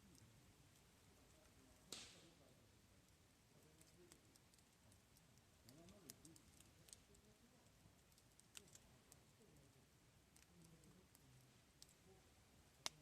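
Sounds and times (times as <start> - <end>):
campfire crackling faintly: 0.0 - 13.0.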